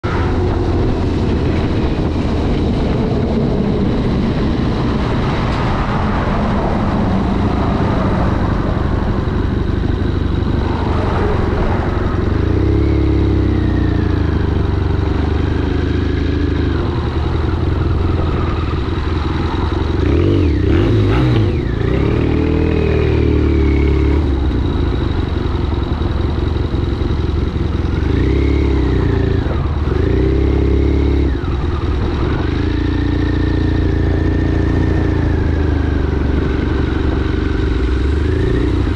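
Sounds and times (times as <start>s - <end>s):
motorcycle engine revving: 0.0s - 38.9s
wind and road noise: 0.0s - 38.9s.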